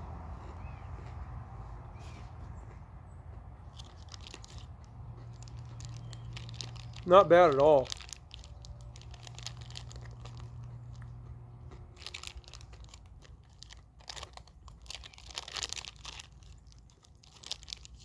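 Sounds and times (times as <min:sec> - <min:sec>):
person chewing crunchy candy: 0:00.3 - 0:18.0.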